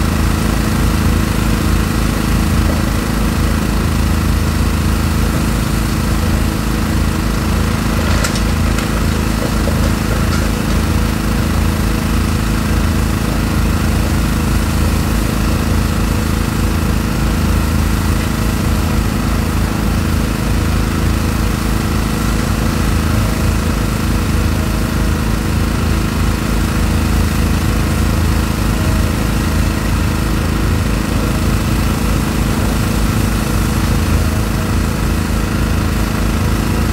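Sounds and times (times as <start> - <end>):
diesel excavator engine droning: 0.0 - 36.9.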